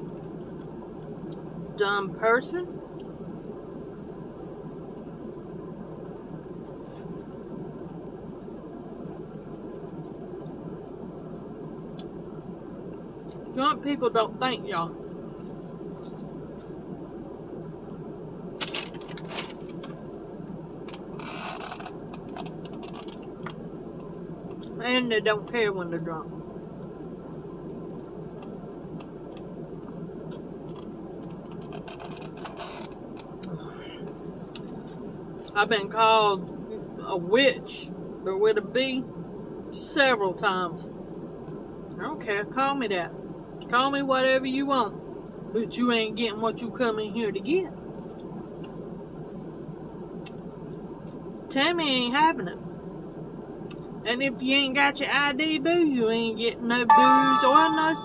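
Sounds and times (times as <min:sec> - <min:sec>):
low background noise: 0:00.0 - 0:58.0
low rumbling background noise: 0:00.0 - 0:58.0.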